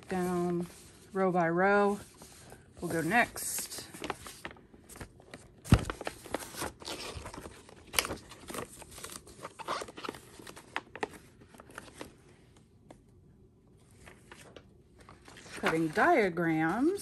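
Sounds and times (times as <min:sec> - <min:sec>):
paper rustling in plastic folder: 0:00.0 - 0:12.5, 0:13.8 - 0:17.0.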